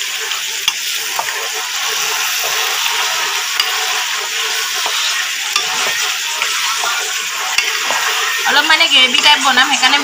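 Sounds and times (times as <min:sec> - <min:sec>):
food sizzling in a pan: 0:00.0 - 0:10.0
metal spatula scraping pan: 0:00.0 - 0:10.0.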